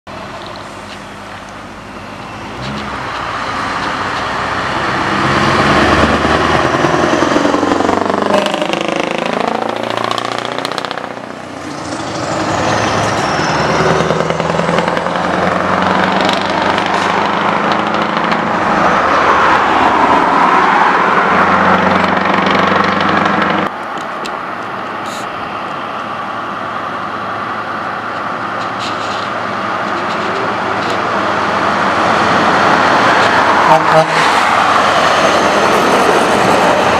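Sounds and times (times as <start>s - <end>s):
truck engine approaching: 0.1s - 36.9s
trucks driving past: 0.1s - 36.9s.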